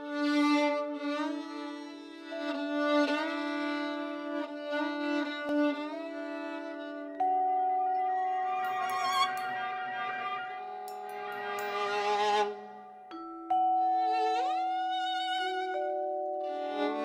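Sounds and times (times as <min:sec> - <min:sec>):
violin bowed notes: 0:00.0 - 0:13.2, 0:13.8 - 0:17.0.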